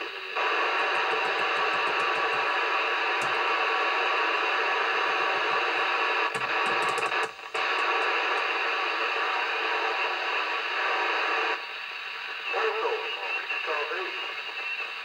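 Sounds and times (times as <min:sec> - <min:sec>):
radio speaker hissing: 0:00.0 - 0:15.0.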